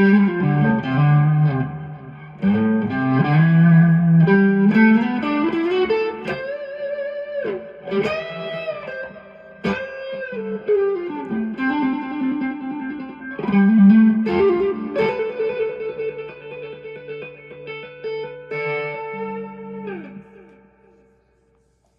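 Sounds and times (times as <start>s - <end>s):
overdriven electric guitar blues: 0.0s - 21.4s.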